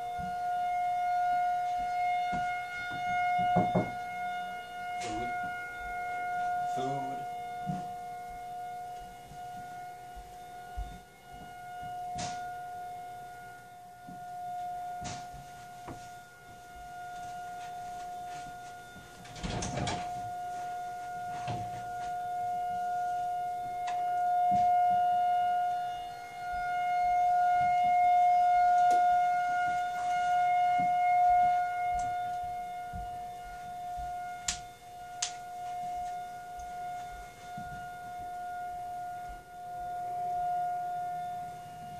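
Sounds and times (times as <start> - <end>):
warning siren wail: 0.0 - 41.9.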